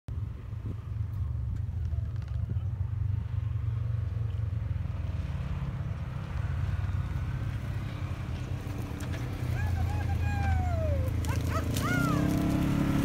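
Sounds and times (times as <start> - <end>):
low engine rumble: 0.1 - 13.0.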